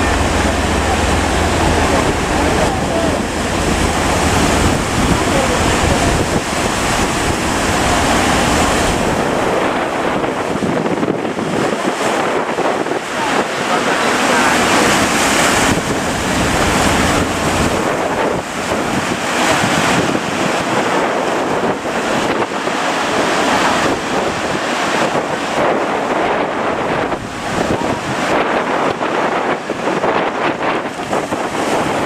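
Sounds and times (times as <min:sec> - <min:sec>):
breaking surf: 0:00.0 - 0:32.0
wind blowing across microphone: 0:00.0 - 0:32.0.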